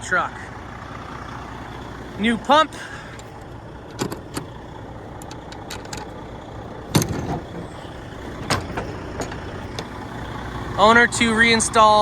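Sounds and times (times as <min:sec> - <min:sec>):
heavy truck engine idling: 0:00.0 - 0:12.0.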